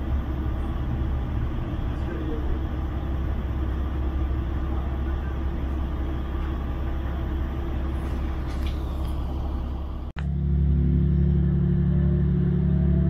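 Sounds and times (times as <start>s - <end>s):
train engine hum: 0.0s - 13.0s
train running gear rumbling: 0.0s - 13.0s.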